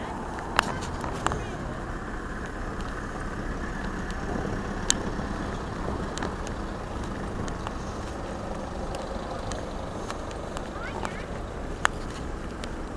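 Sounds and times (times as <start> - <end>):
street traffic noise: 0.0 - 12.9.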